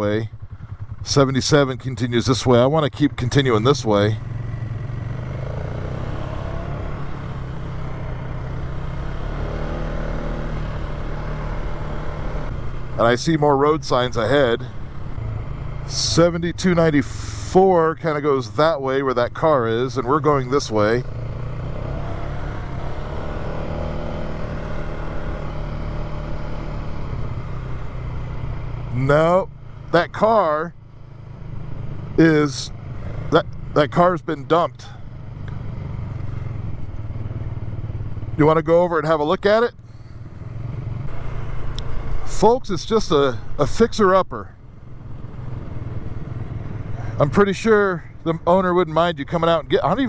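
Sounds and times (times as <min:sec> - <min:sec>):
quad engine humming: 0:00.0 - 0:50.0.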